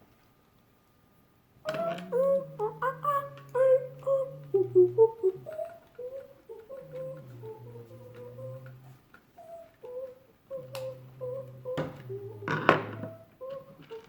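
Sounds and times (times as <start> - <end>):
low mechanical hum: 0.0 - 14.0
ticking: 1.7 - 14.0.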